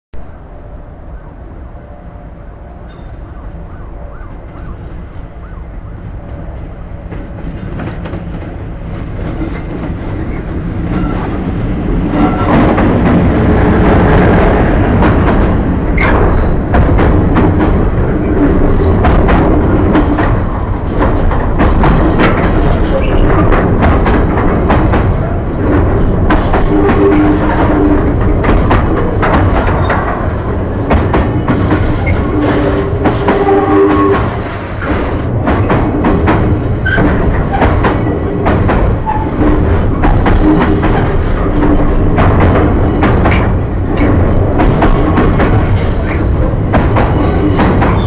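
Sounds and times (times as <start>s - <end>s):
diesel locomotive passing: 0.2s - 48.0s
wagon wheels clicking over rail joints: 6.2s - 48.0s.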